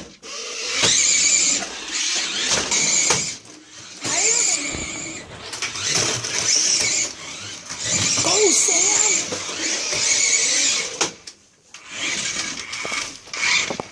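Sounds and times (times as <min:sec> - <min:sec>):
toy car electric motors whining: 0:00.0 - 0:13.9.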